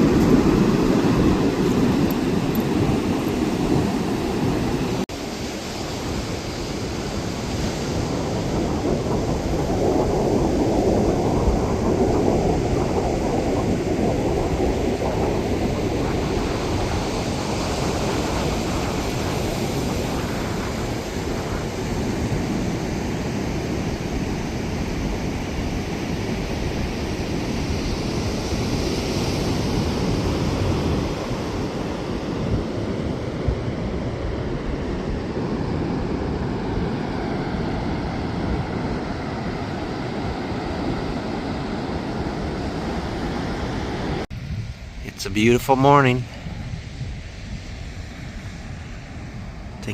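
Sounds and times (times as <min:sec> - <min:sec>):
ocean surf washing on beach: 0:00.0 - 0:49.9
wind rumbling on microphone: 0:00.0 - 0:49.9.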